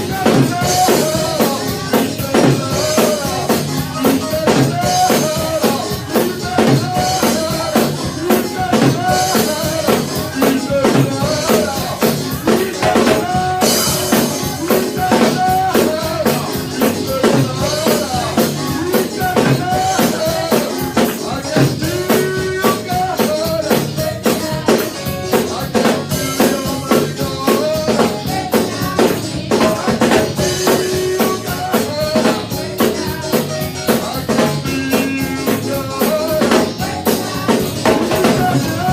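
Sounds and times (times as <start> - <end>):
drum kit beat: 0.0 - 38.9
keyboard or guitar chords: 0.0 - 38.9.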